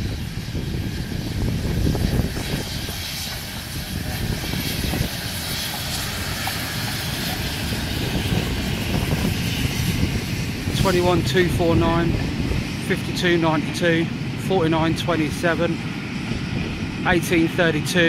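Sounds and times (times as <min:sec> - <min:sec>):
rushing noise: 0:00.0 - 0:18.0
steam train running past: 0:00.0 - 0:18.0.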